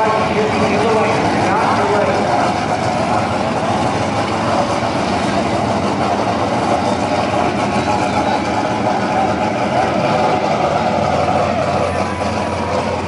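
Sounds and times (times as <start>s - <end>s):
car engines idling: 0.0s - 13.0s.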